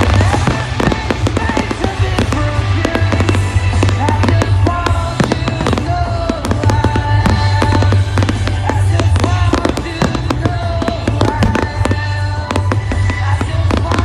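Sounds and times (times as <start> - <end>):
fireworks bangs and crackles: 0.0 - 14.0
loud music: 0.0 - 14.0.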